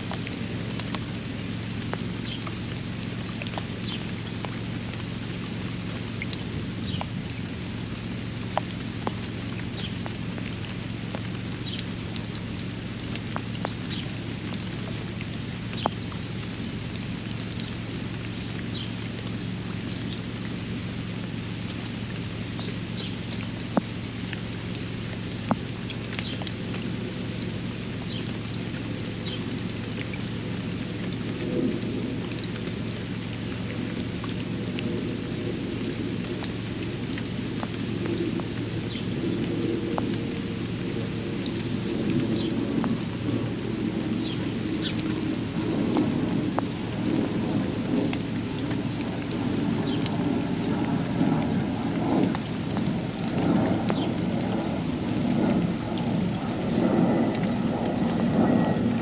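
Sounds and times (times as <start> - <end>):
low rumble: 0.0 - 59.0
rain falling on a pond: 0.0 - 59.0.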